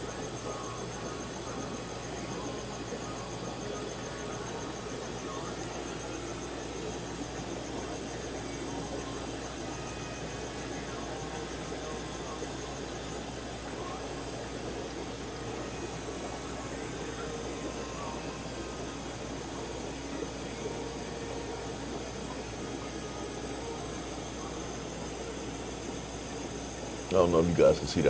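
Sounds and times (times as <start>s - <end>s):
aquarium equipment humming and bubbling: 0.0s - 28.0s.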